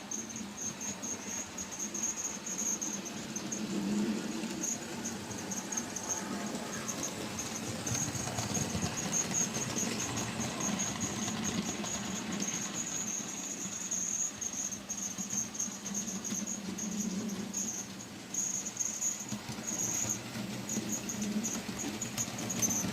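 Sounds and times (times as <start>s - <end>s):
model train running on track: 0.0s - 22.9s.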